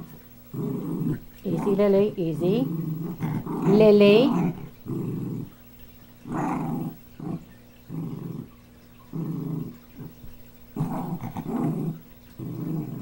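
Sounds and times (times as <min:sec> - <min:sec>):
small dog growling: 0:00.0 - 0:13.0.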